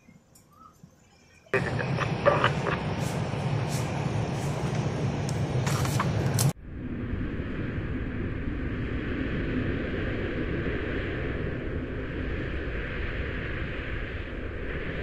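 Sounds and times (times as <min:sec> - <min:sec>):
faint hum: 0:00.0 - 0:15.0
low rumble with crackles: 0:01.6 - 0:15.0.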